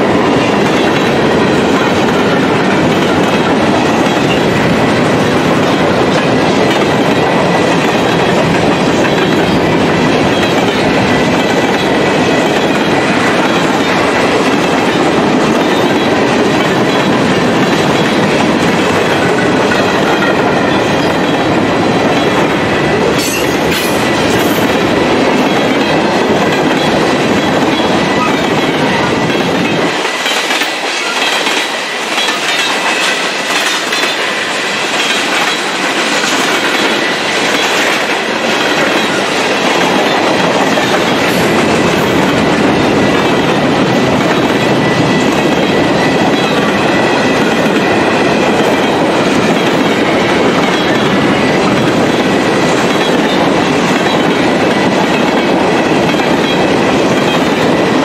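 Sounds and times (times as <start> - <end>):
freight train passing: 0.0 - 58.0
sharp train clanks: 0.0 - 58.0.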